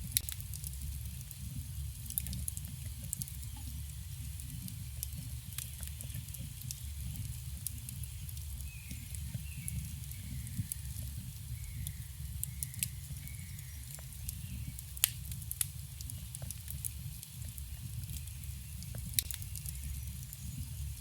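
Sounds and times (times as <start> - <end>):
campfire flames rumbling: 0.0 - 21.0
wood crackling and popping: 0.0 - 21.0.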